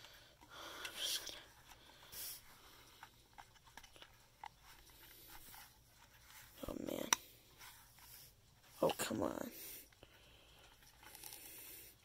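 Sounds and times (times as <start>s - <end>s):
soft rustle: 0.0s - 12.0s.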